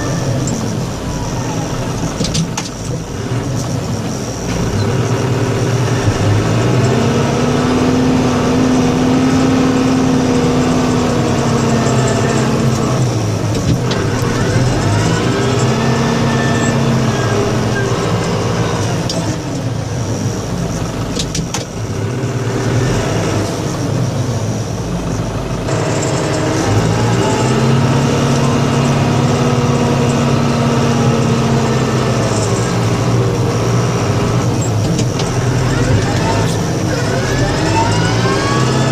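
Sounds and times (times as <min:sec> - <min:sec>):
snow plow engine revving: 0:00.0 - 0:38.9.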